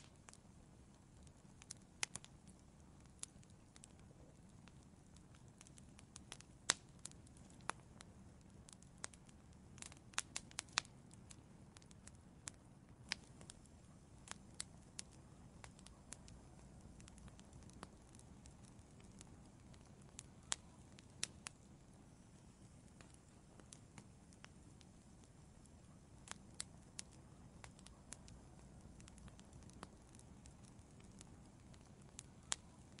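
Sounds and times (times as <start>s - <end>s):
faint rumble of flames: 0.0s - 33.0s
wood fire crackling and popping: 0.0s - 33.0s.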